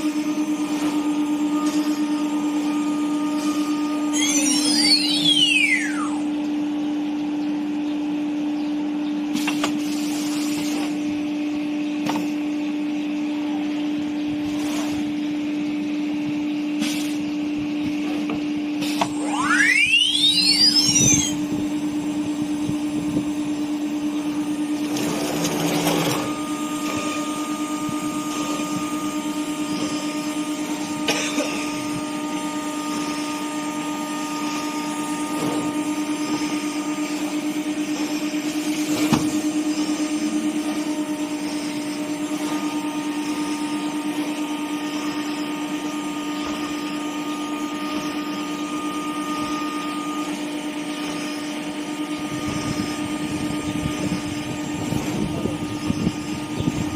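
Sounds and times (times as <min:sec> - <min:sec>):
router spindle whine: 0:00.0 - 0:56.9.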